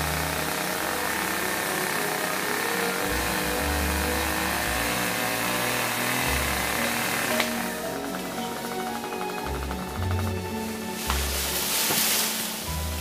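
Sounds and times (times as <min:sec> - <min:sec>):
background music: 0:00.0 - 0:13.0
chainsaw running: 0:00.0 - 0:13.0.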